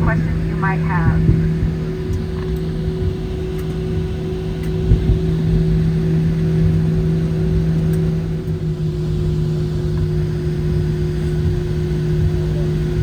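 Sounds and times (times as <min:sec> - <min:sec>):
jet engine idling drone: 0:00.0 - 0:13.0.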